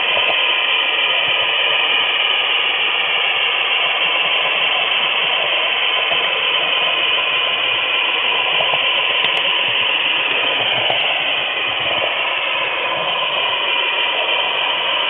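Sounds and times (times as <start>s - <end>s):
faint steady tone: 0.0s - 15.0s.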